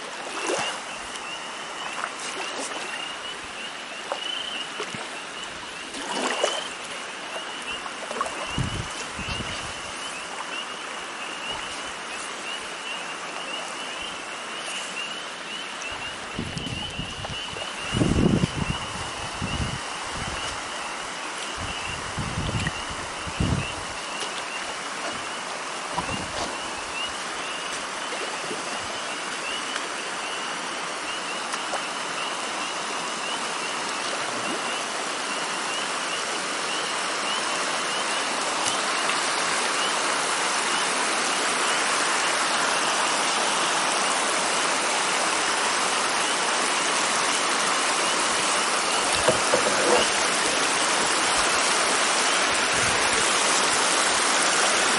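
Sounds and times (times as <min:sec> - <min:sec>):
water rushing over a dam: 0:00.0 - 0:54.9.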